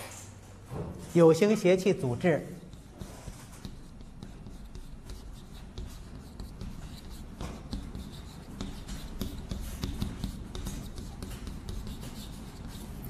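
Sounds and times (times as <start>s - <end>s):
chalk tapping and scratching: 2.5s - 13.0s.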